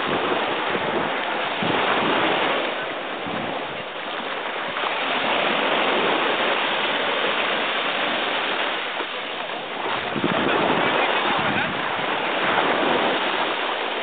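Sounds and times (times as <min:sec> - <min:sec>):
small waves washing on sand: 0:00.0 - 0:14.0.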